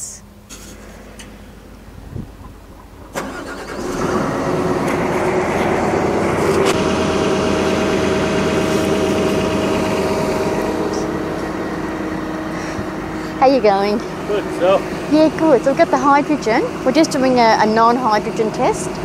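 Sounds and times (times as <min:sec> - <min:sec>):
diesel engine starting and running: 0:00.0 - 0:19.0.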